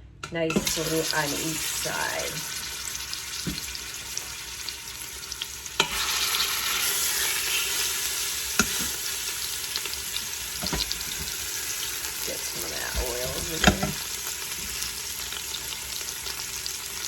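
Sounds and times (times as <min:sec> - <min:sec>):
meat sizzling in hot oil: 0:00.6 - 0:17.0.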